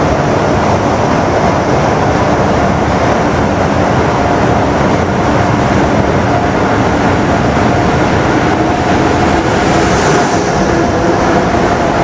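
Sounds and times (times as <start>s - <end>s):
faint train whine: 0.0s - 12.0s
train wheels rumbling on rail: 0.0s - 12.0s.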